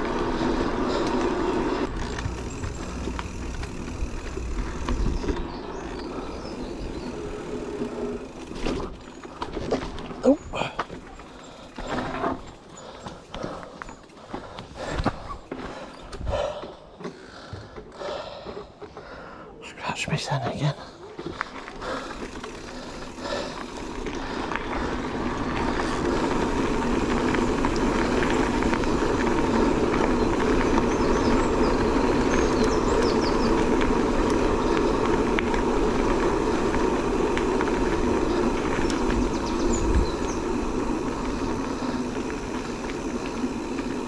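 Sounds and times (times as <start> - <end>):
bike tyres rolling on trail: 0.0 - 44.0.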